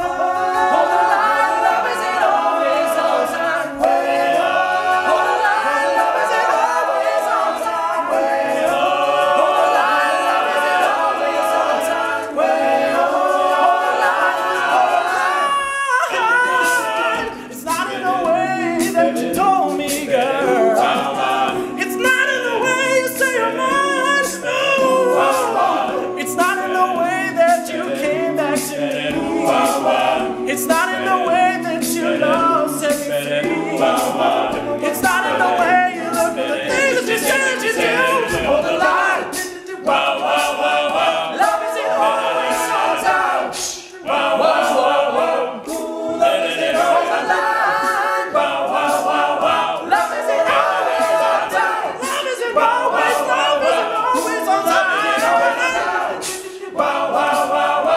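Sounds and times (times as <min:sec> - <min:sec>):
vocal group singing in harmony: 0:00.0 - 0:57.9.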